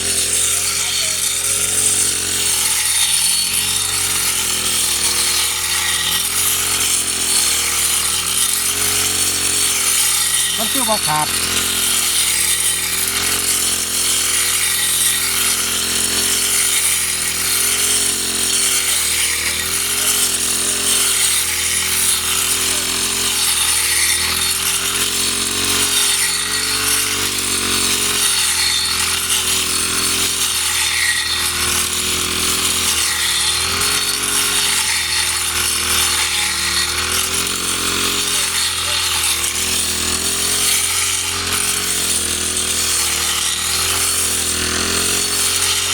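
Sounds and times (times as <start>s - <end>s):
small petrol engine revving: 0.0s - 45.9s.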